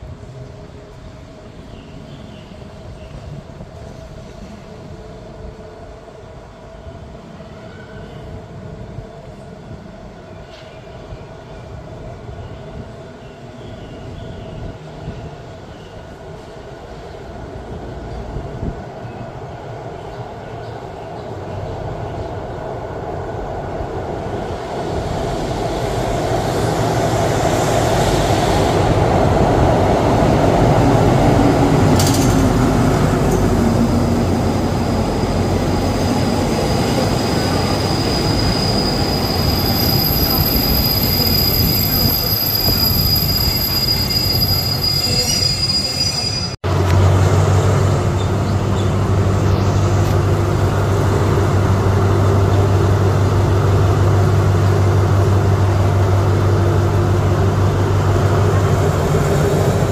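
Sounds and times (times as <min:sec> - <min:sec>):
diesel locomotive approaching: 0:00.0 - 0:59.9.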